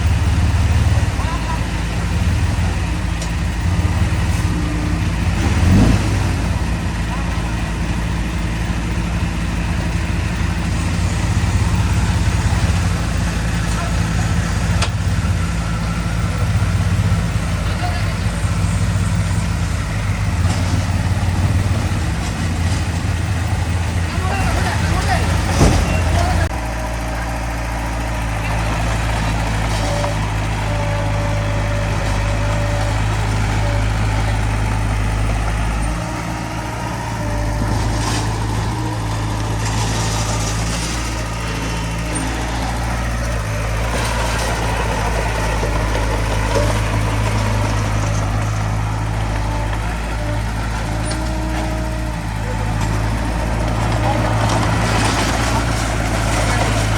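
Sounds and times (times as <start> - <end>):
heavy diesel machinery idling: 0.0 - 56.9.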